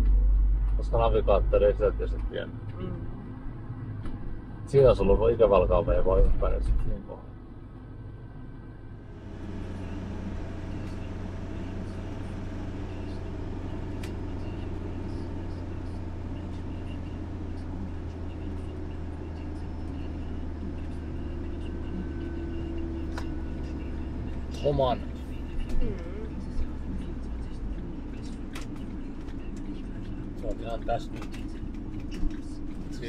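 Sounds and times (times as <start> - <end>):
motorhome engine and tyre noise: 0.0 - 33.0.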